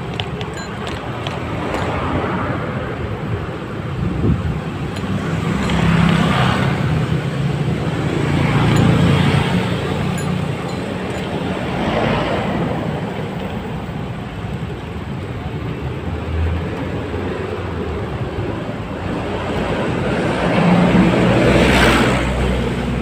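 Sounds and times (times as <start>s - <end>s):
road traffic rumble: 0.0s - 23.0s
vehicles passing: 0.0s - 23.0s.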